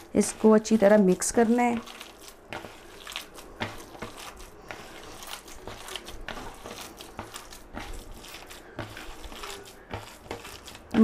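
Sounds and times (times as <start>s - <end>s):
hand squishing minced meat: 0.0s - 11.0s.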